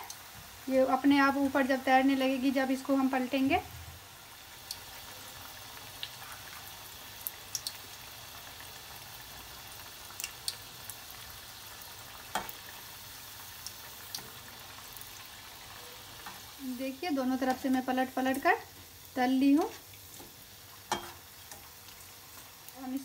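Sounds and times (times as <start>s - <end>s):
food sizzling in hot oil: 0.0s - 23.0s
sharp oil crackles: 0.0s - 23.0s.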